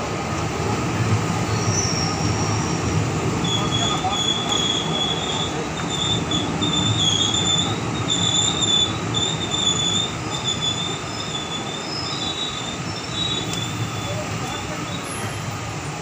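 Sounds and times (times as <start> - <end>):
train coaches rumbling on rails: 0.0 - 16.0
high wavering wheel squeal: 1.4 - 15.5.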